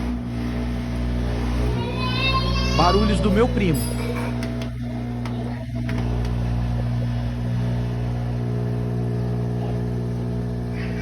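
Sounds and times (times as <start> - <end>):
washing machine hum and buzz: 0.0 - 11.0.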